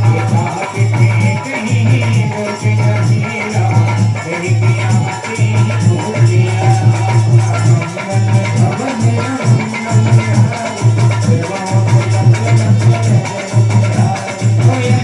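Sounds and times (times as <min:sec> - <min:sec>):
dholak drum rhythm: 0:00.0 - 0:15.0
jingling hand percussion: 0:00.0 - 0:15.0.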